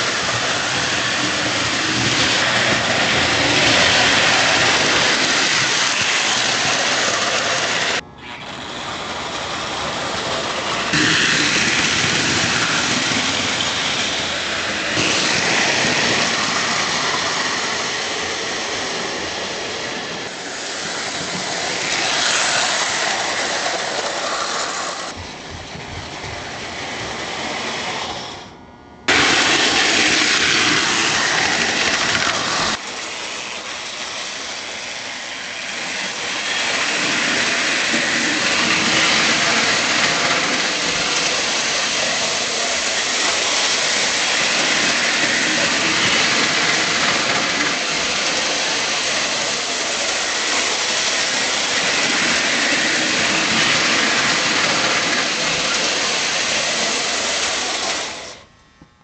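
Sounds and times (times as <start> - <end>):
model train rolling on track: 0.0 - 28.5, 29.1 - 58.5.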